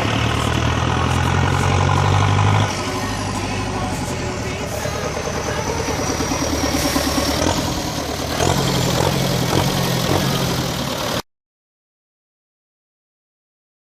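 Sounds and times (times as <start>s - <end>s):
farm machinery engine running: 0.0s - 11.2s.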